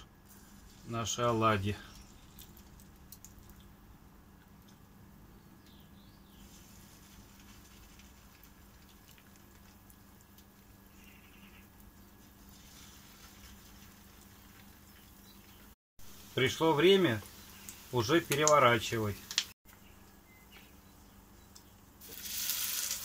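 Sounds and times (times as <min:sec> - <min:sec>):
batter frying in hot oil: 0:00.0 - 0:05.2, 0:06.3 - 0:19.6, 0:21.5 - 0:23.0.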